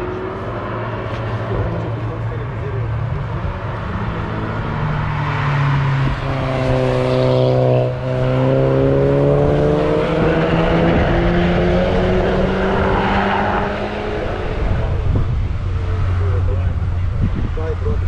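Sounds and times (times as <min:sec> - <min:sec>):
car engine accelerating past: 0:00.0 - 0:17.5.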